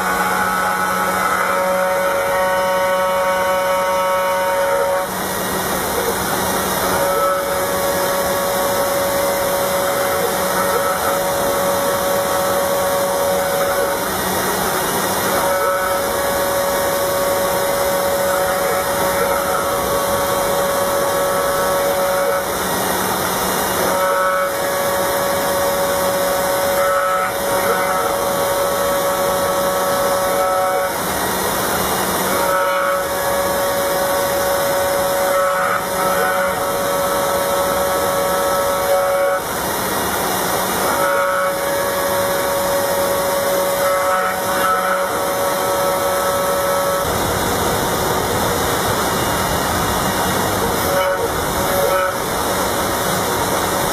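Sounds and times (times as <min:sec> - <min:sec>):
router milling metal whine: 0:00.0 - 0:53.9.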